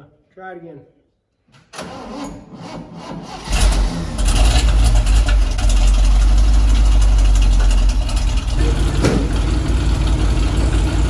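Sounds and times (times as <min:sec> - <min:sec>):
tractor engine starting and running: 0:01.8 - 0:11.0.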